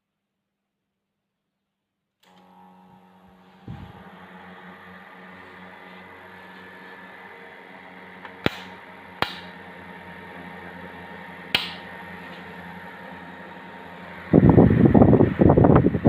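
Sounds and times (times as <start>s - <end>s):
low electrical hum: 2.2s - 16.0s.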